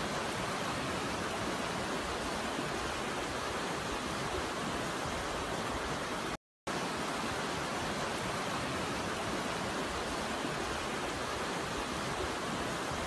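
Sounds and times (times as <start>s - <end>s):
stream rushing over rapids: 0.0s - 13.0s.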